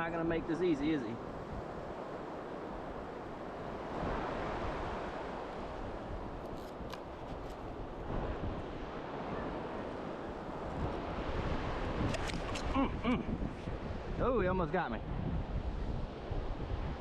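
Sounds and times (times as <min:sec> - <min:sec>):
wind buffeting microphone: 0:01.1 - 0:17.0.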